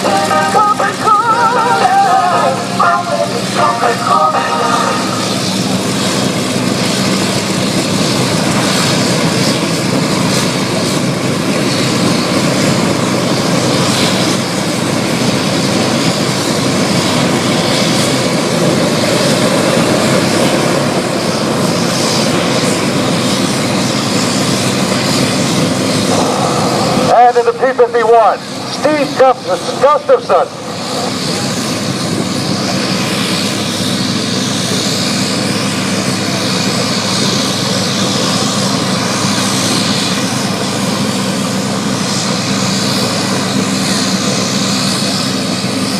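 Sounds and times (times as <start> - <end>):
propeller airplane flying past: 0.0 - 45.9.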